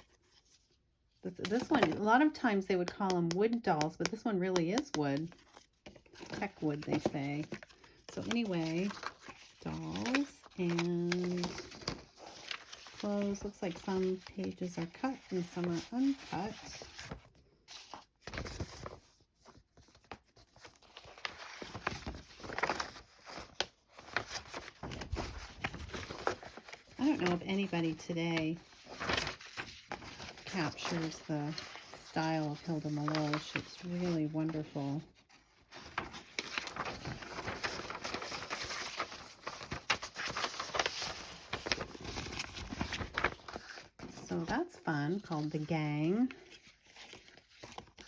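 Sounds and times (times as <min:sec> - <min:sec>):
paper rustling: 0:00.0 - 0:02.2, 0:04.7 - 0:48.0.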